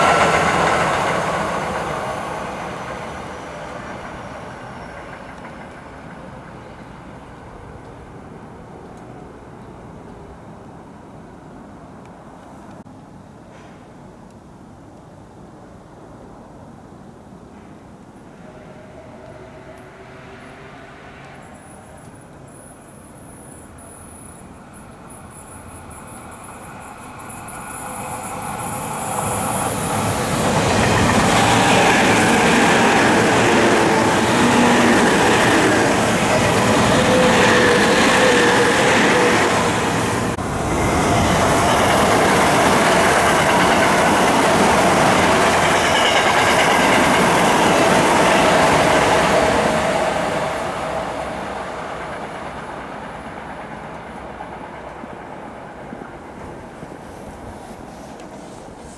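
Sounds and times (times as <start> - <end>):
wheels rumbling on rails: 0.0 - 13.8, 17.6 - 58.9
electric trains passing: 0.0 - 14.4, 15.4 - 58.9.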